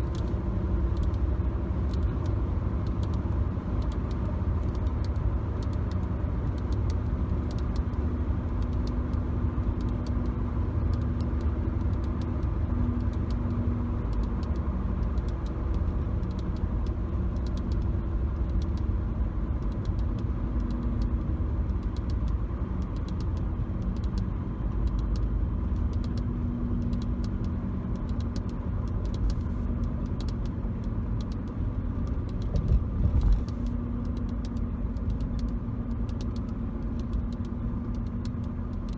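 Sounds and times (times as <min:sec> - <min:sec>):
car cabin road rumble: 0:00.0 - 0:38.9.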